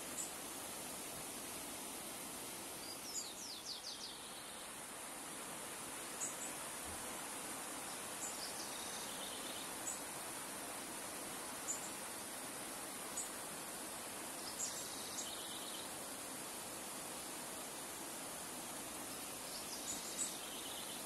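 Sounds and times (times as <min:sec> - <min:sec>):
river flowing over stones: 0:00.0 - 0:21.0.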